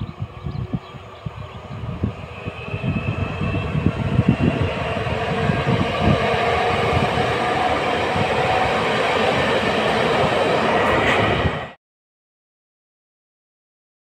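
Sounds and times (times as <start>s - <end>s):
train rolling rumble: 0.0s - 11.8s.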